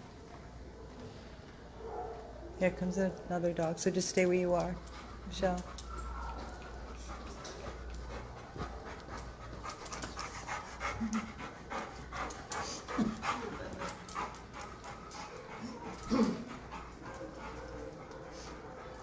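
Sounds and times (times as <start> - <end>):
dog panting: 3.4 - 19.0.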